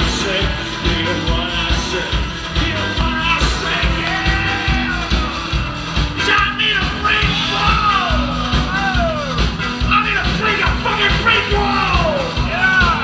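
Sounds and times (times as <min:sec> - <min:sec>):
live band music: 0:00.0 - 0:13.0
steady drum beat: 0:00.0 - 0:13.0.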